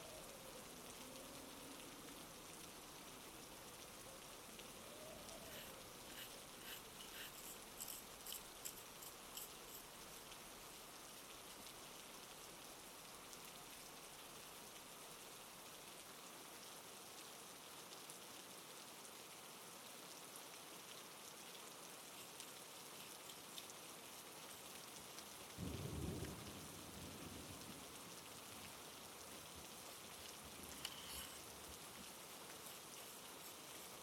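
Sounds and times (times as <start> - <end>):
faint rain pattering: 0.0 - 34.0.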